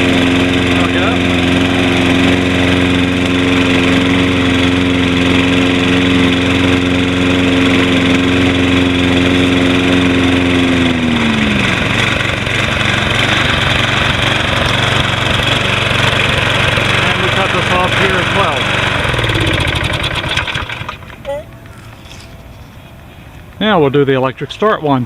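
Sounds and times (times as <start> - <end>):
lawn mower engine running: 0.0 - 23.6.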